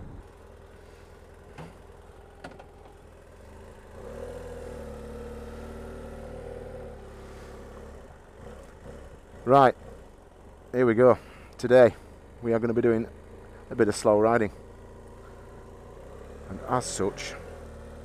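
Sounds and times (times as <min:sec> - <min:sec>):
motorcycle engine pulling away: 0:00.0 - 0:18.0.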